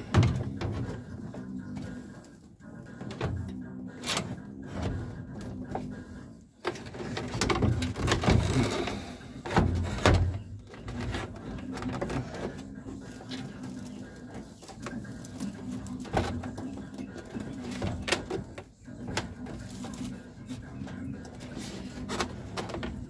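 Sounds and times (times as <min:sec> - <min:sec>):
plastic scraping and rubbing: 0:00.0 - 0:23.0.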